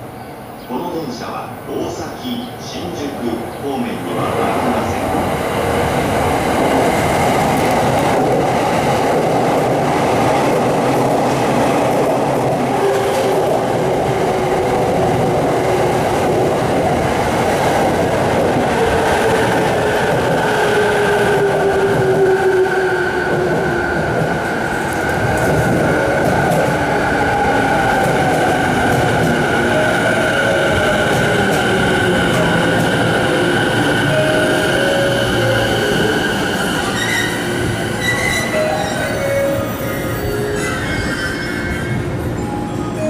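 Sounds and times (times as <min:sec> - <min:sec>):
train wheels rumbling on rails: 0:04.2 - 0:42.4.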